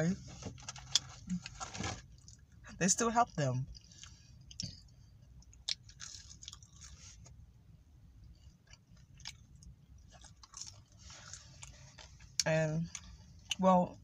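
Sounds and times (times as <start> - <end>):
chewing crispy fried chicken: 0.5 - 7.2, 8.3 - 14.0.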